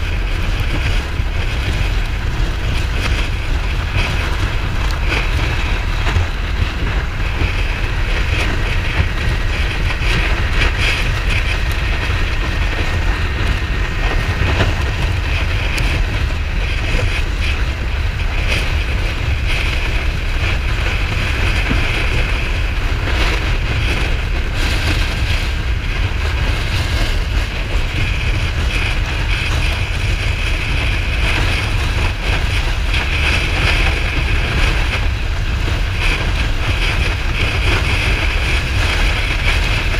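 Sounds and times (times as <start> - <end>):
motorcycle engine running: 0.0 - 39.9
road noise: 0.0 - 39.9
wind rush over microphone: 0.0 - 39.9.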